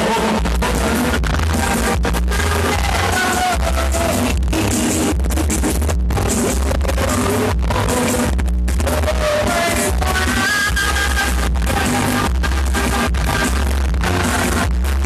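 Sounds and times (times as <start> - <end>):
loud dance music with heavy bass: 0.0 - 15.0.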